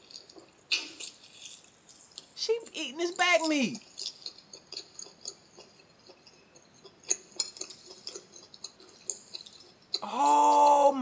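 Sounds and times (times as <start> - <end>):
meat being chewed: 0.0 - 10.1.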